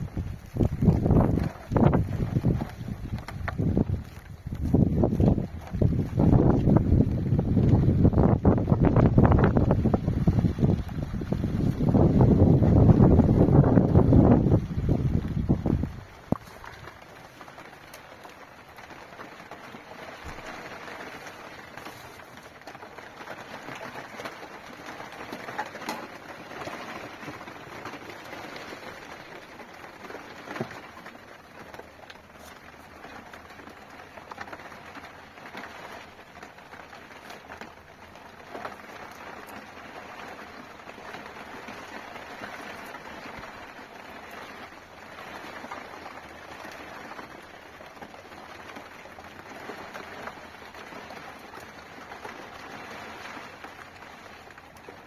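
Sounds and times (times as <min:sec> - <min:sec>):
sharp ticks of raindrops: 0:00.0 - 0:55.0
steady rain falling: 0:00.0 - 0:55.0.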